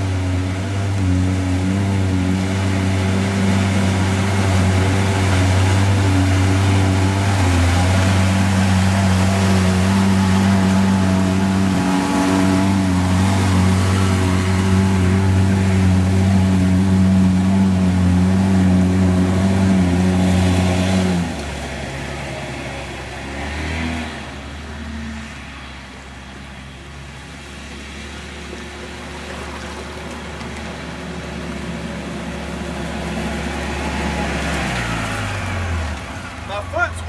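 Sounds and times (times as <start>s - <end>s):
utility vehicle engine under load: 0.0s - 37.0s
water rushing and splashing: 0.0s - 37.0s.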